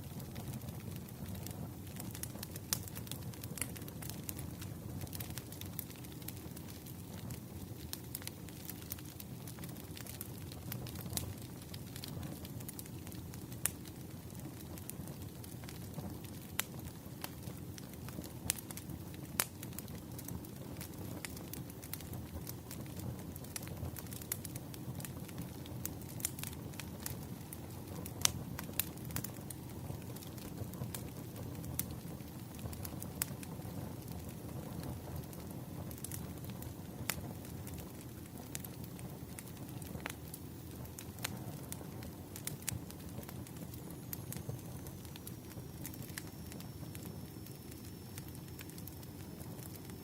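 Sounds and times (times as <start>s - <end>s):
fire crackling and popping: 0.0s - 50.0s
firewood burning: 0.0s - 50.0s.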